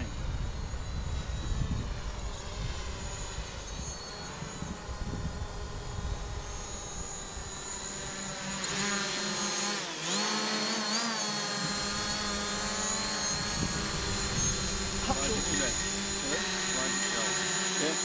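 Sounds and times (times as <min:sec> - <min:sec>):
drone propellers buzzing: 0:00.0 - 0:18.0.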